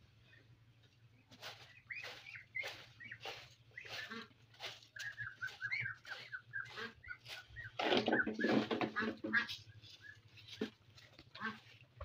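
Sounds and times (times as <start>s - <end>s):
birds calling: 0.0s - 12.0s
broom sweeping dirt: 1.3s - 12.0s.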